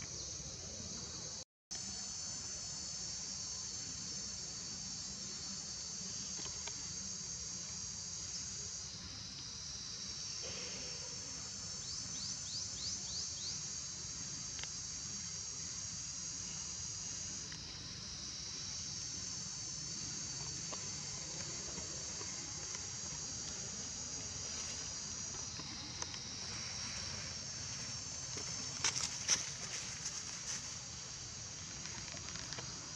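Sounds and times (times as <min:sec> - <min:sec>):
quick insect chirps: 0:00.0 - 0:32.9
shrill insect chorus drone: 0:00.0 - 0:32.9.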